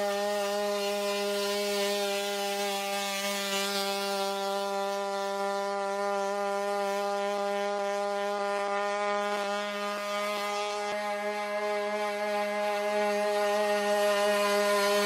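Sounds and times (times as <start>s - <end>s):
combustion engine buzzing: 0.0s - 15.0s.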